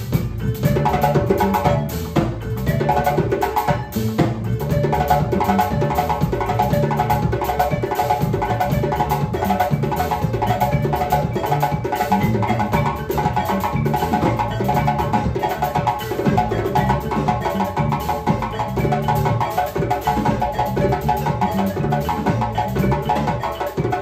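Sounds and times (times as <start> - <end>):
bass guitar: 0.0 - 24.0
djembe: 0.0 - 24.0
drum kit: 0.0 - 24.0
marimba playing bright figure: 0.0 - 24.0.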